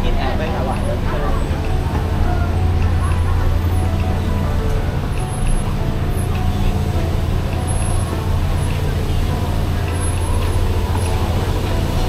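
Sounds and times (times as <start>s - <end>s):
indistinct voices: 0.0s - 12.0s
road traffic rumble: 0.0s - 12.0s.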